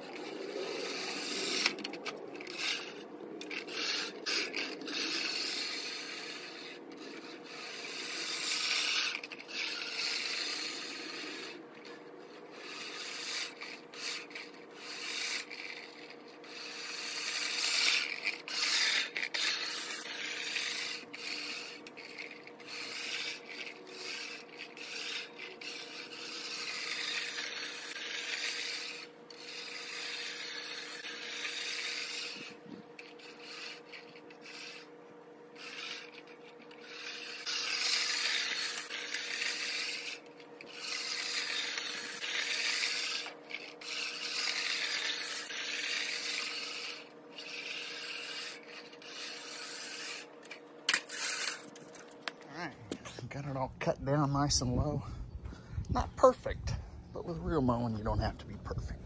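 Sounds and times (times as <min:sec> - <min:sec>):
reel mower cutting grass: 0:00.0 - 0:55.0.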